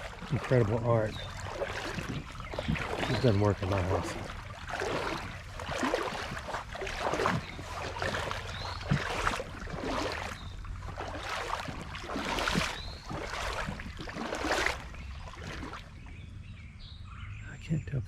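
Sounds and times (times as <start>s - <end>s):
boots wading through water: 0.0s - 16.3s.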